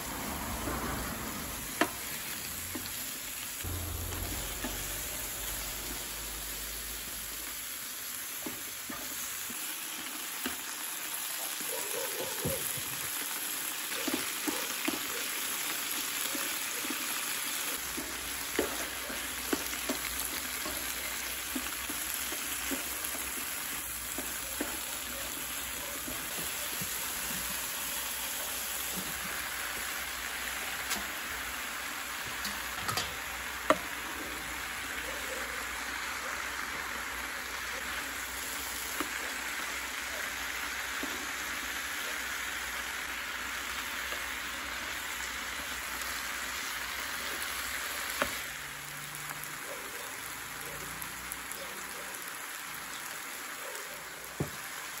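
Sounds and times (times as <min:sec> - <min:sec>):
food sizzling in pan: 0:00.0 - 0:55.0.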